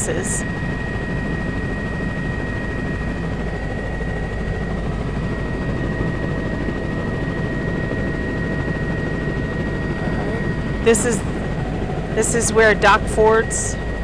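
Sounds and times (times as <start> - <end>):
aircraft engine drone: 0.0 - 14.0
thin steady whine: 0.0 - 14.0.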